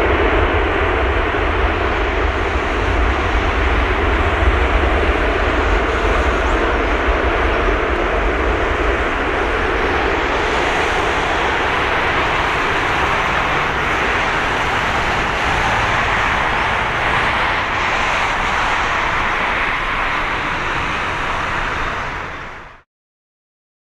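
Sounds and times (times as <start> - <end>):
jet engines roaring: 0.0 - 22.8.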